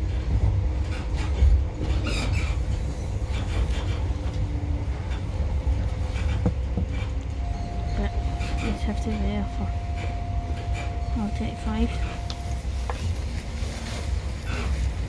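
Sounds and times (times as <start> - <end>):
train clicks and rattles: 0.0 - 15.0
train rumbling on track: 0.0 - 15.0.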